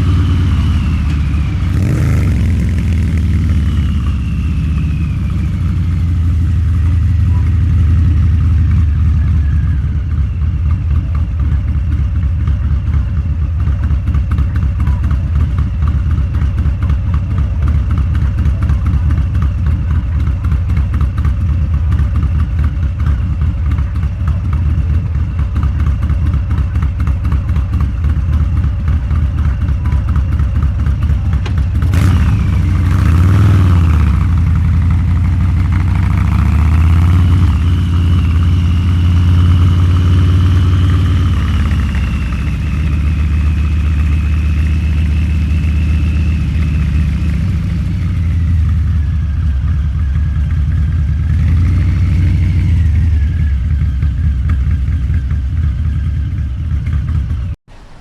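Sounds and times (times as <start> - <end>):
motorcycle engine riding: 0.0 - 58.0.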